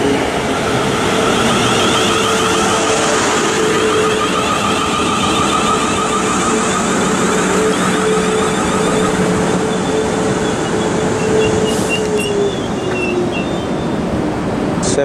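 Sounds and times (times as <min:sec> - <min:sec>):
train rolling noise: 0:00.0 - 0:15.0
electric train motor whine: 0:00.4 - 0:14.0
short high squeals: 0:01.2 - 0:14.1.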